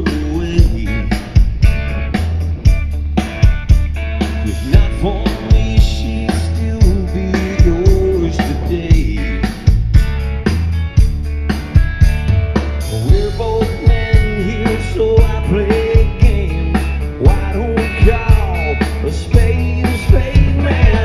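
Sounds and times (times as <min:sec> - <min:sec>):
bass: 0:00.0 - 0:21.0
drum kit beat: 0:00.0 - 0:21.0
electric guitar: 0:00.0 - 0:21.0.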